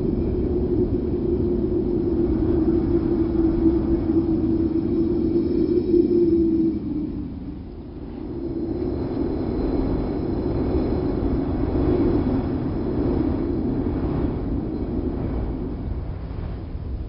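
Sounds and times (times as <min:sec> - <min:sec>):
low rushing wind: 0:00.0 - 0:17.0.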